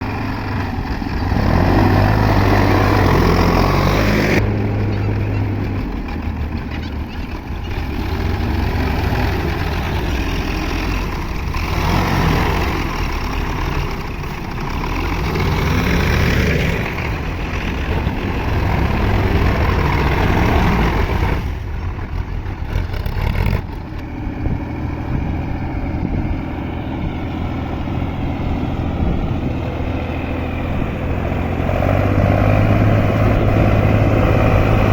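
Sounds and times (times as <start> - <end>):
tractor engine straining: 0.0 - 34.9.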